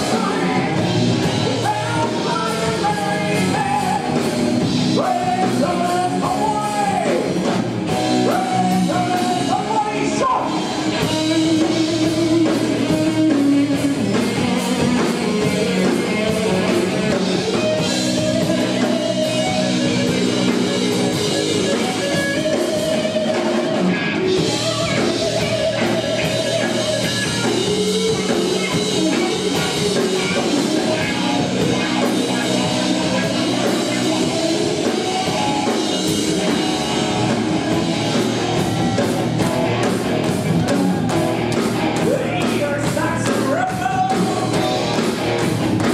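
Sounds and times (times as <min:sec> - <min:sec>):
drum kit: 0:00.0 - 0:45.9
electric guitars: 0:00.0 - 0:45.9.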